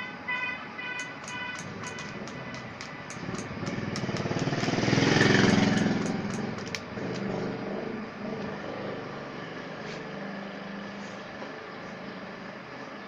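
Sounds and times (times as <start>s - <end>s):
vehicle engine passing by: 1.6s - 13.0s.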